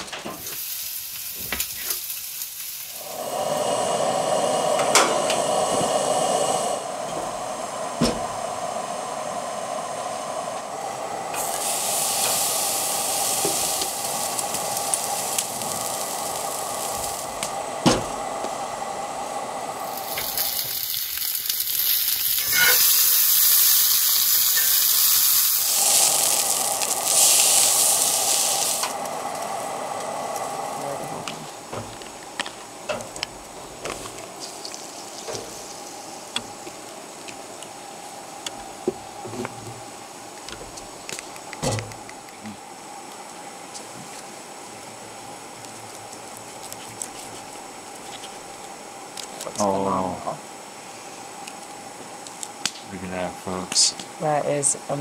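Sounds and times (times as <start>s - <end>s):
food sizzling: 0.0s - 55.0s.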